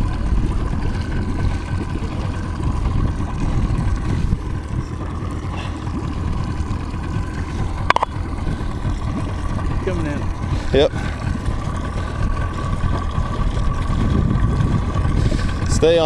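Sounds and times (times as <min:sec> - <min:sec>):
outboard motor running: 0:00.0 - 0:16.0
wind on microphone: 0:00.0 - 0:16.0.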